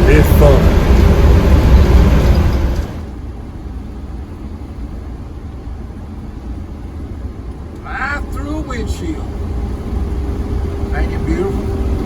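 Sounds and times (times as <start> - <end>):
vehicle road and engine rumble: 0.0 - 12.0.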